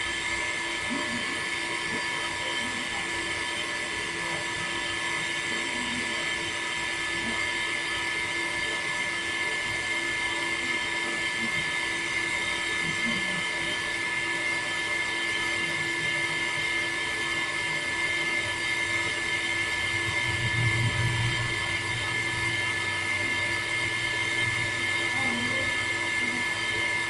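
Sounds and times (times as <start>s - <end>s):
small motor whining: 0.0s - 27.0s.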